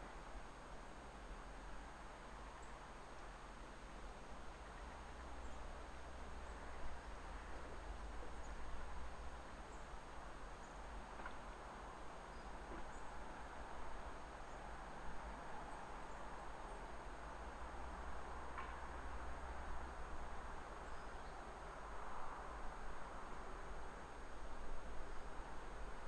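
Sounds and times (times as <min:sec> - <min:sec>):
low hiss and hum: 0:00.0 - 0:26.0.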